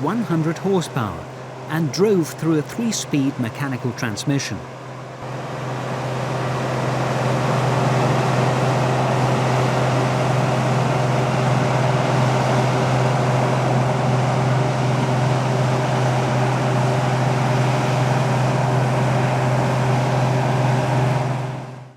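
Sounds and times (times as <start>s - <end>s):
combine harvester running: 0.0s - 21.9s.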